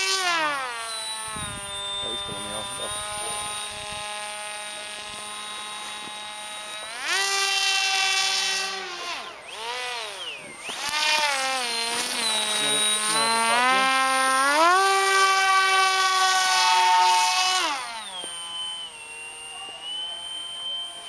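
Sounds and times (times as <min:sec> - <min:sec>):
model paramotor motor whining: 0:00.0 - 0:21.0.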